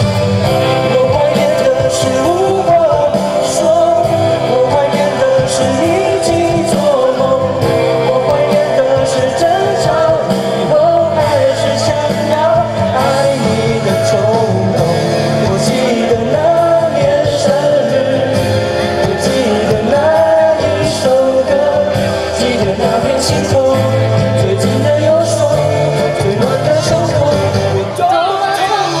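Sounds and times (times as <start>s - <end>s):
amplified backing track: 0.0s - 29.0s
person singing pop song: 0.0s - 29.0s.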